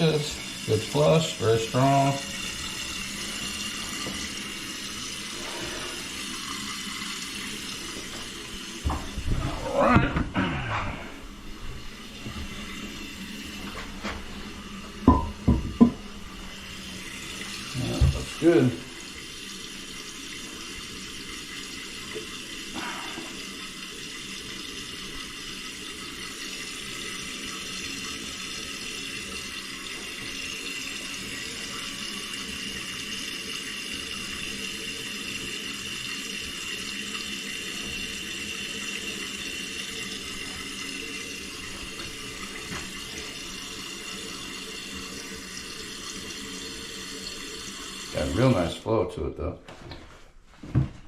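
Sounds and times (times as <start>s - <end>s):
toilet tank refilling: 0.0s - 49.3s.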